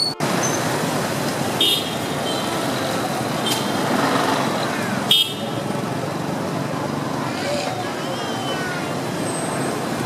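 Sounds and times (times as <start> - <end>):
busy street traffic: 0.0 - 10.0
motorbikes running: 0.1 - 10.0.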